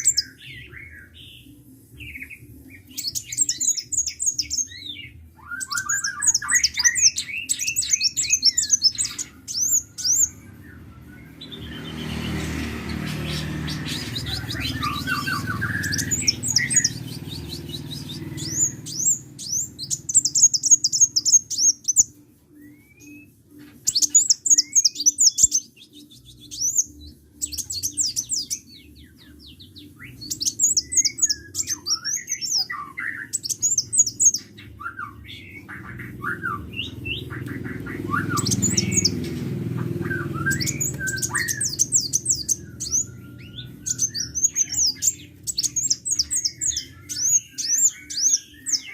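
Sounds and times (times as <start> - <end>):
bird singing high trills: 0.0 - 48.9
whistled bird notes: 0.0 - 48.9.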